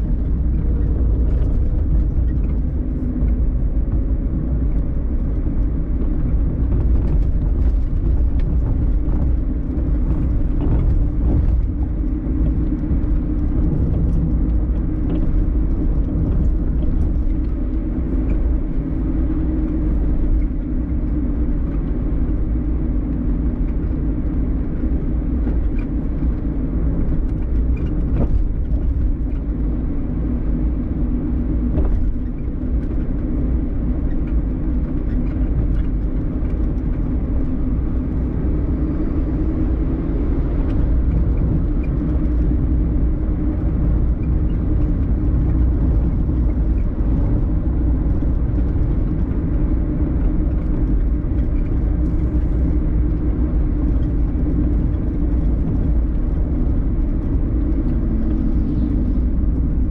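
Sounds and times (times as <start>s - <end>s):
car driving interior rumble: 0.0s - 59.9s.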